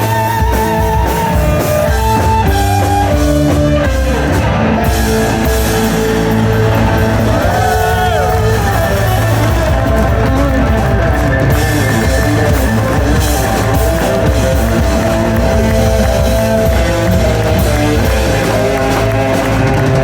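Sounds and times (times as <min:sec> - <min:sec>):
drum kit: 0:00.0 - 0:20.0
electric guitar: 0:00.0 - 0:20.0
loud bass: 0:00.0 - 0:20.0.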